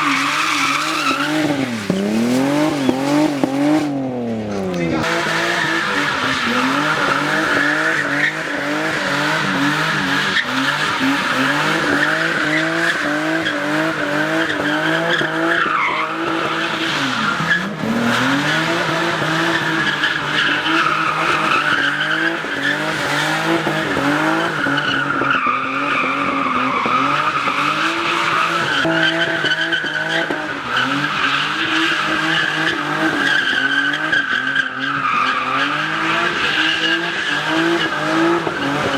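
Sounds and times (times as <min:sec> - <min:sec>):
tyres squealing: 0:00.0 - 0:03.9, 0:04.8 - 0:38.9
car engine revving hard: 0:00.0 - 0:38.9.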